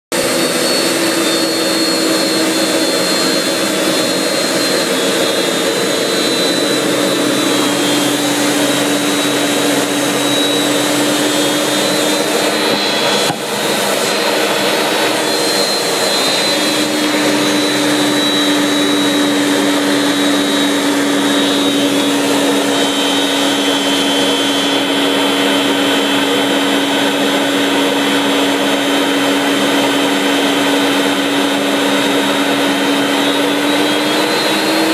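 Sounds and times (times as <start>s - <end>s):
high turbine whine: 0.1s - 34.9s
jet engine running: 0.1s - 34.9s.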